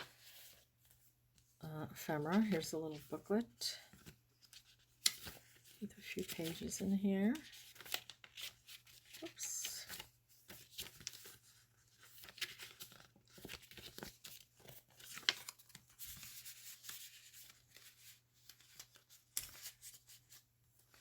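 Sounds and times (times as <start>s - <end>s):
paper rustling and crinkling: 0.0s - 1.5s, 2.2s - 21.0s.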